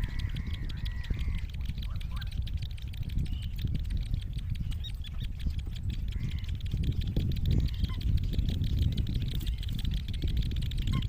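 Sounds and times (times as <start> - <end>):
bird chicks calling faintly: 0.0 - 11.0
fine continuous crackle: 0.0 - 11.0
steady low rumble: 0.0 - 11.0.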